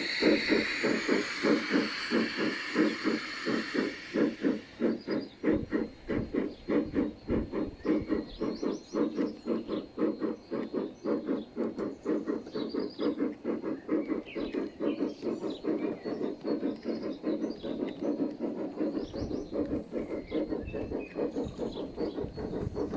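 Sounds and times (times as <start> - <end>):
model steam locomotive chuffing: 0.0 - 22.9.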